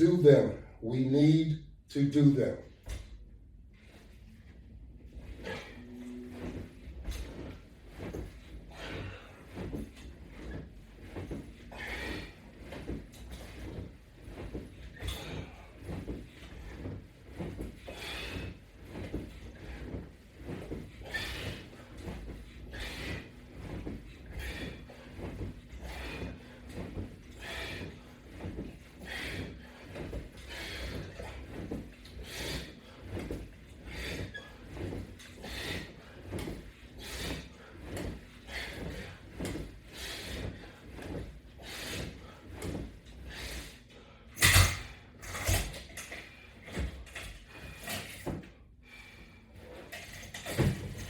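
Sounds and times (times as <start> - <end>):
breath and movement sounds: 3.6 - 51.0.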